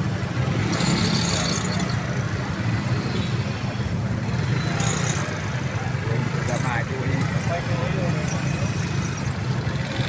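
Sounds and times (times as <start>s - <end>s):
motorcycle engines idling: 0.0s - 10.0s.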